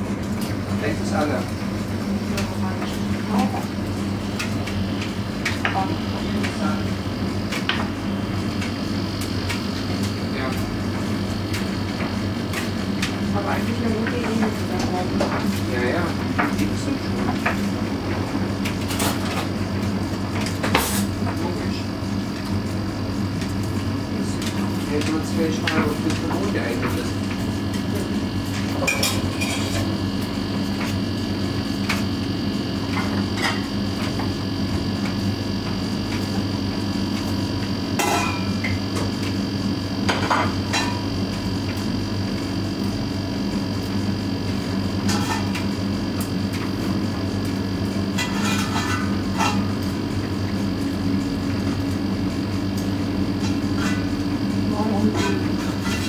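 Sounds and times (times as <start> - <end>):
washing machine drum humming: 0.0 - 56.0.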